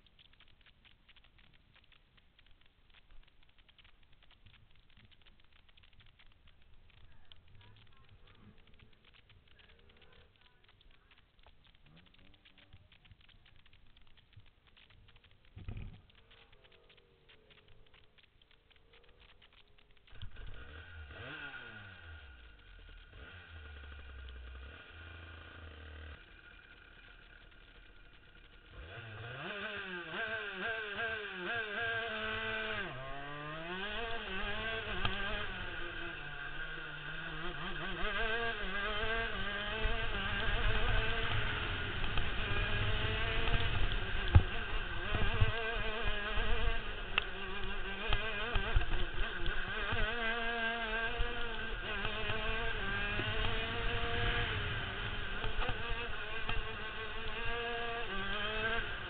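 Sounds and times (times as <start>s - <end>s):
two-stroke kart engine revving: 5.2s - 14.1s, 14.7s - 59.0s.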